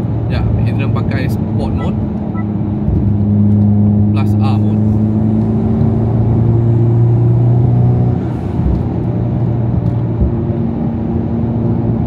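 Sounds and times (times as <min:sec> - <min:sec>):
car engine droning in cabin: 0:00.0 - 0:12.0
road noise: 0:00.0 - 0:12.0.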